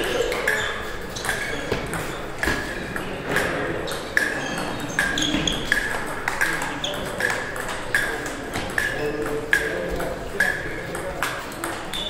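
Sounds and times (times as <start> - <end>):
ball bouncing on table: 0.3 - 12.0
table tennis ball clicking off bats: 0.3 - 12.0.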